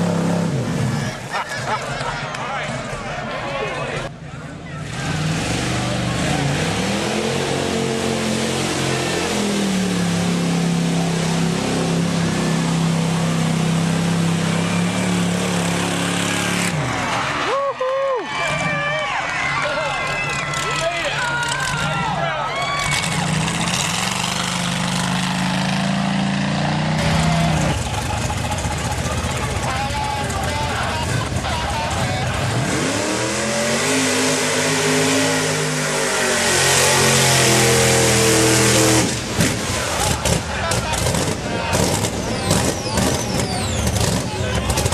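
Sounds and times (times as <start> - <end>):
truck engine at high revs: 0.0 - 3.2, 4.7 - 17.5, 18.4 - 44.9.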